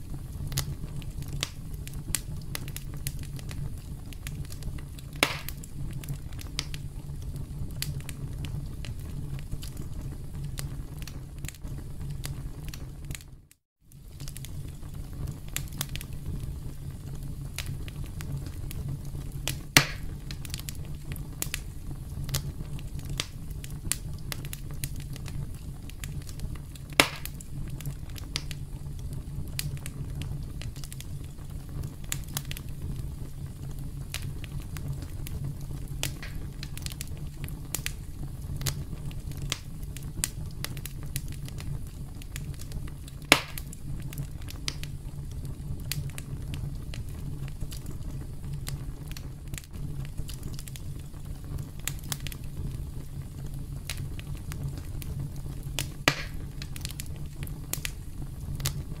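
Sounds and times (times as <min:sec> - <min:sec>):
campfire crackling: 0:00.0 - 0:59.0
loud fire pops: 0:00.0 - 0:59.0.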